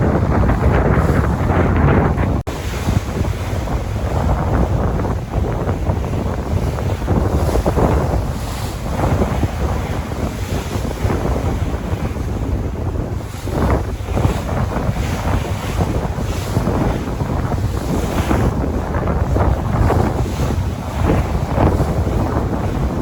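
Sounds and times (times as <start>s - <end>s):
sea waves washing: 0.0s - 23.0s
wind buffeting microphone: 0.0s - 23.0s.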